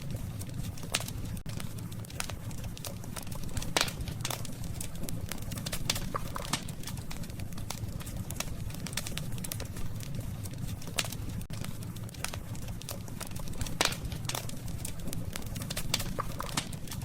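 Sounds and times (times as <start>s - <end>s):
campfire crackling and popping: 0.0s - 17.0s
low rumble of burning fire: 0.0s - 17.0s.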